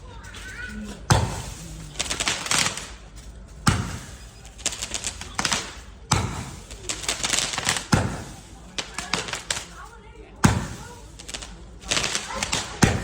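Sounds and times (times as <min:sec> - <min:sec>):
firework crackling: 0:00.0 - 0:13.0
firework booms: 0:01.1 - 0:03.0, 0:03.6 - 0:09.8, 0:10.4 - 0:13.0.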